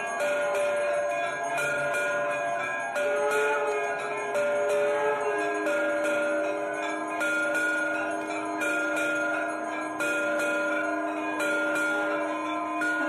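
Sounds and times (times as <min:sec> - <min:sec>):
high jangle: 0:00.0 - 0:13.0
temple bell ringing: 0:00.0 - 0:13.0.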